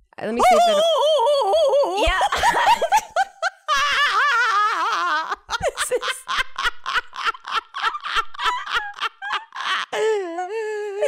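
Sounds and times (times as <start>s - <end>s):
women laughing: 0.5s - 10.4s.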